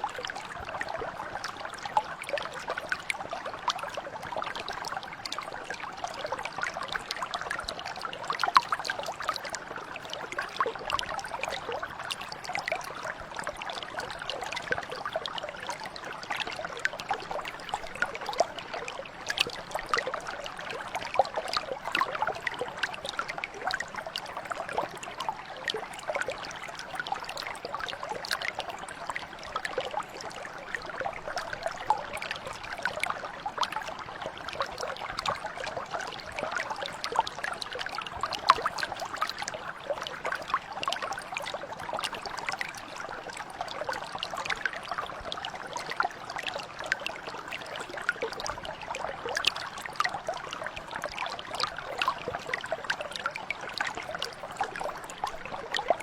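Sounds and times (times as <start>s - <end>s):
brook water splashing over stones: 0.0s - 56.0s.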